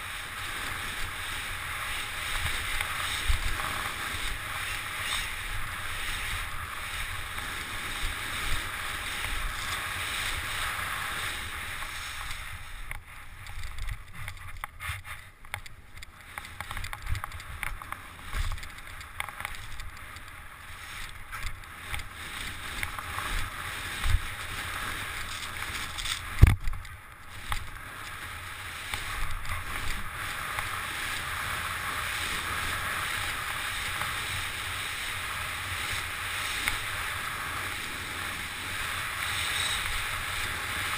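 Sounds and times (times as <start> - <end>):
skis knocking over bumpy snow: 0.0 - 12.6, 16.4 - 40.9
wind on microphone: 0.0 - 15.1, 20.7 - 40.9
skis rushing through snow: 0.0 - 15.4, 16.2 - 40.9.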